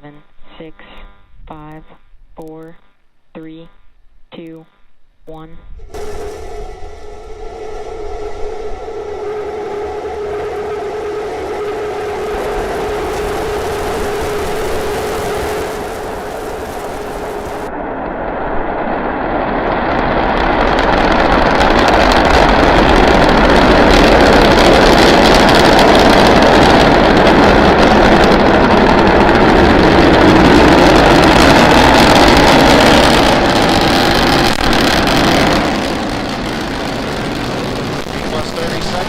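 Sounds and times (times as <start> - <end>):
rocket engines roaring: 5.8 - 39.0.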